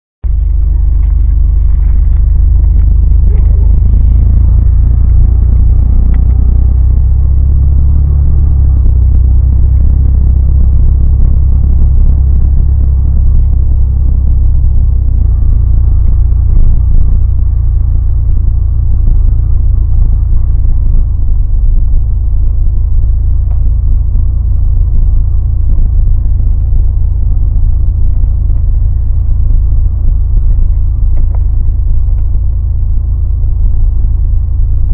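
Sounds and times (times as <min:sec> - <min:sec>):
pickup truck engine and road rumble: 0:00.2 - 0:34.9.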